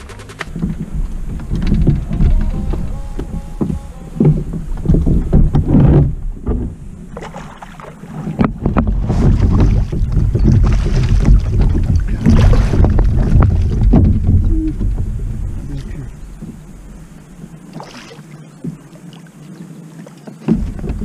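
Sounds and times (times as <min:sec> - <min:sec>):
wind rumbling on microphone: 0:00.0 - 0:17.9, 0:20.4 - 0:21.0
water lapping against kayak hull: 0:00.0 - 0:21.0.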